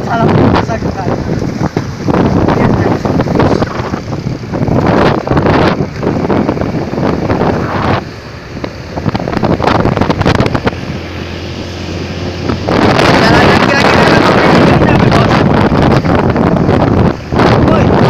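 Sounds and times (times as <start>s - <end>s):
low engine hum: 0.0s - 18.0s
moving vehicle noise: 0.0s - 18.0s
wind buffeting microphone: 0.0s - 18.0s.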